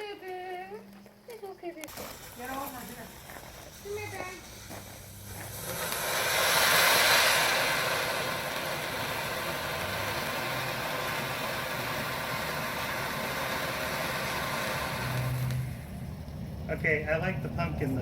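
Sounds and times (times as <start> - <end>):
firework fountain hissing: 1.8 - 18.0.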